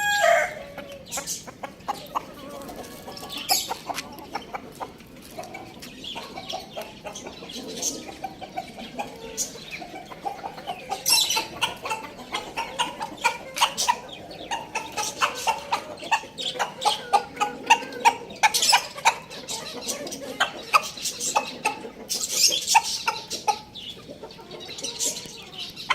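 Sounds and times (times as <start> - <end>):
chickens clucking: 0.0 - 25.9.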